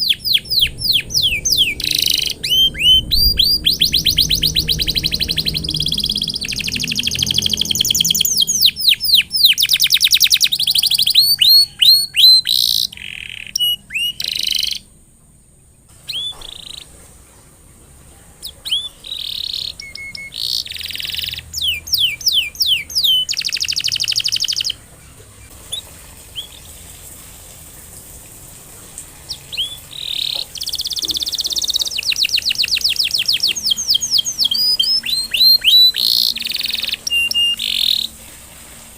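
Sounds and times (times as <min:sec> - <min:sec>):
canary singing trills: 0:00.0 - 0:15.0, 0:15.9 - 0:17.1, 0:18.4 - 0:26.8, 0:29.2 - 0:38.2.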